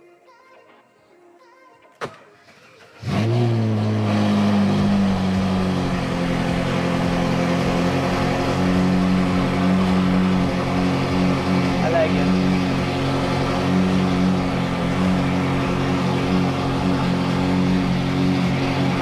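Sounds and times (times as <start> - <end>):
car engine starting and idling: 2.4 - 19.0.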